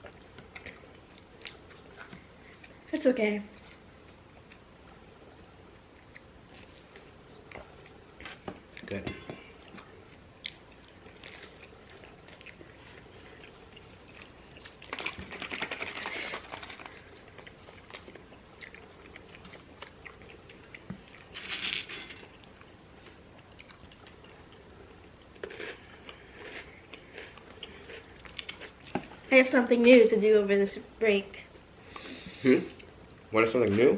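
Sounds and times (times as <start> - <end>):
chewing and crunching food: 0.0 - 5.0, 5.9 - 29.3.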